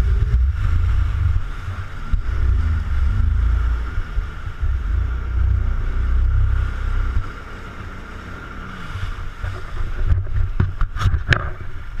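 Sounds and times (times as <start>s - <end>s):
jet ski engine whine: 0.0s - 12.0s
wind rumble on microphone: 0.0s - 12.0s.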